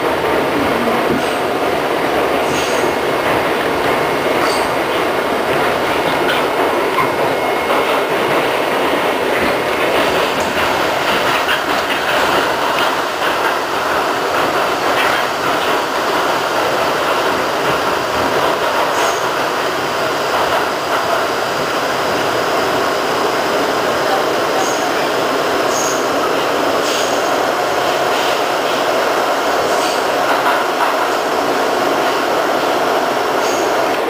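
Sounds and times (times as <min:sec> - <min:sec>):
wheels rumbling on rail: 0:00.0 - 0:34.0.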